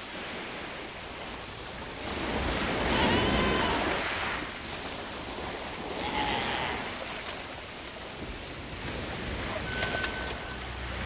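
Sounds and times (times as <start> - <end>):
sea waves washing: 0.0 - 11.0.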